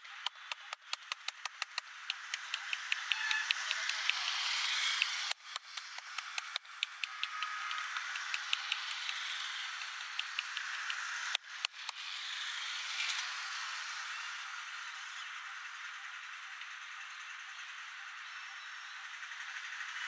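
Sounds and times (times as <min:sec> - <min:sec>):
street noise hiss: 0:00.0 - 0:20.0.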